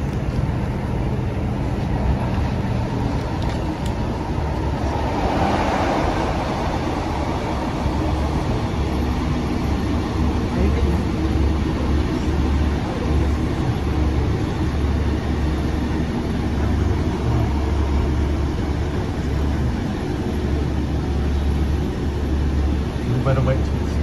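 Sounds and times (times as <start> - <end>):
diesel engine drone: 0.0 - 24.0
train wheels rumbling on rails: 0.0 - 24.0.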